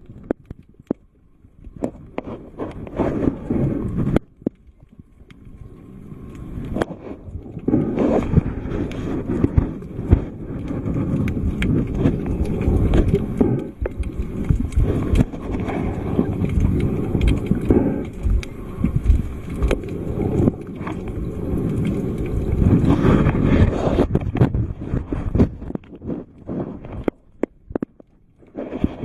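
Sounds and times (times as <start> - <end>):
low underwater rumble: 0.0 - 29.0
sharp underwater clicks: 0.0 - 29.0.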